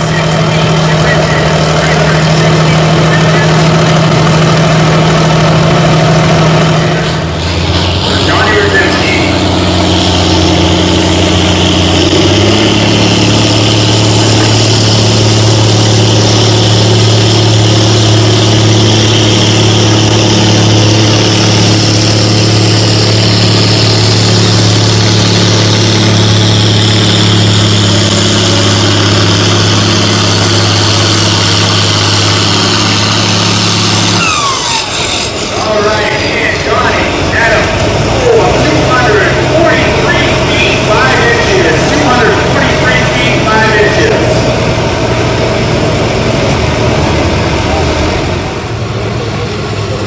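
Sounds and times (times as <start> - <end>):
tractor engine running under load: 0.0 - 50.0.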